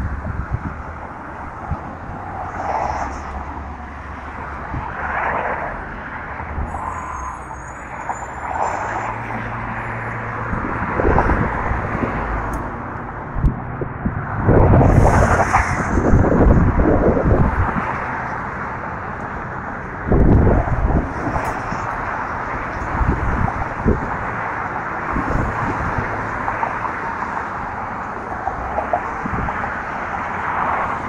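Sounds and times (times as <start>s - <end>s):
wind buffeting microphone: 0.0s - 7.2s, 9.5s - 31.0s
rumble of passing vehicles: 0.0s - 31.0s.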